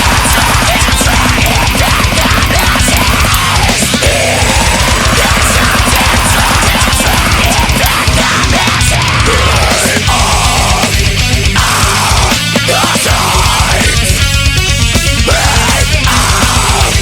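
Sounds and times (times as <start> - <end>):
heavy metal music: 0.0 - 17.0.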